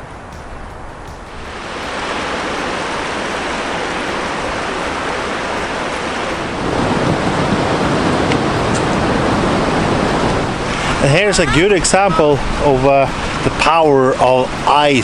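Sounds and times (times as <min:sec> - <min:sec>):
rushing meltwater: 0:00.0 - 0:15.0.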